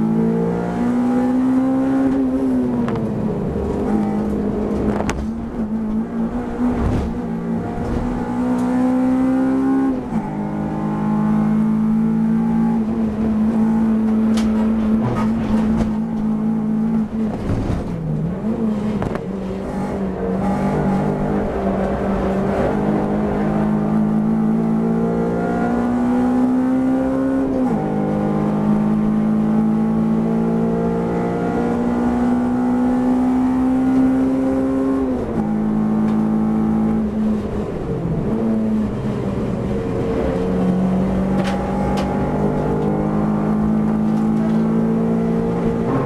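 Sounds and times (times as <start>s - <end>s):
race car engine accelerating: 0.0s - 46.0s.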